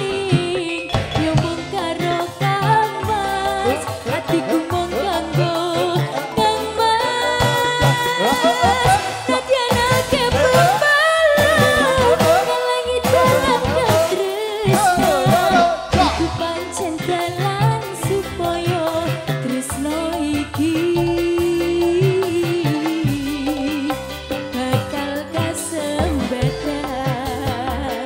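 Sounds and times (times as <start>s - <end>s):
band playing: 0.0s - 28.0s
woman singing: 0.0s - 28.0s.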